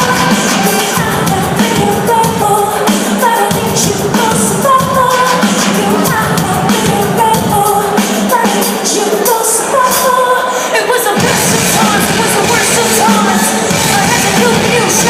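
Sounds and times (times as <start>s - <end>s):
live band playing: 0.0s - 15.0s
woman singing: 0.0s - 15.0s.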